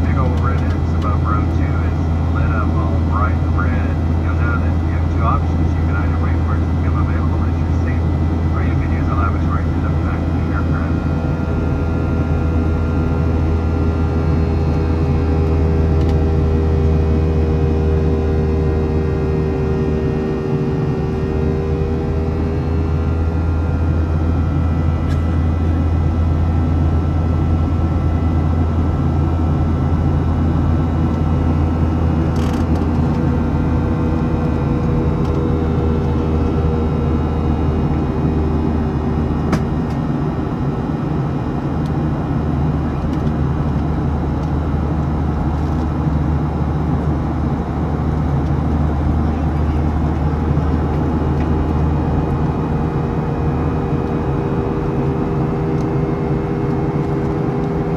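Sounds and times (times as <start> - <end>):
faint engine whining tones: 0.0 - 57.9
jet engine cabin rumble: 0.0 - 57.9.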